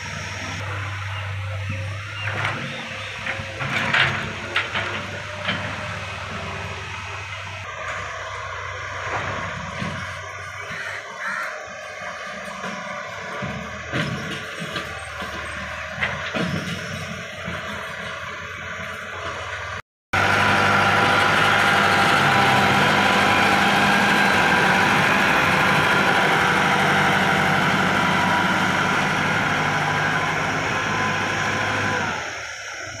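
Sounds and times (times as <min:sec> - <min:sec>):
heavy engine running: 0:00.0 - 0:33.0.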